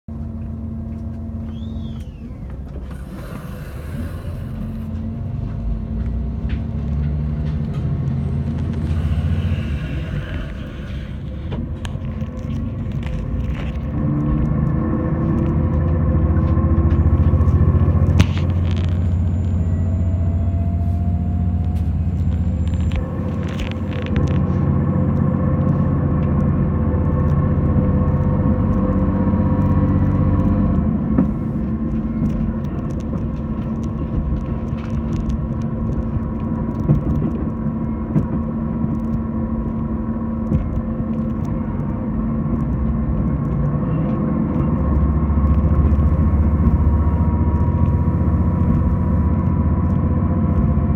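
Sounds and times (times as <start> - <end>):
train engine hum: 0.1 - 50.9
train running gear rumble: 0.1 - 50.9.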